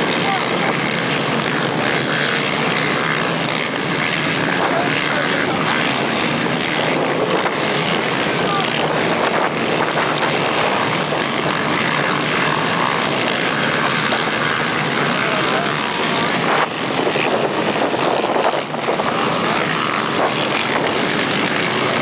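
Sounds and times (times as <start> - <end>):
quad bike engines revving: 0.0 - 22.0.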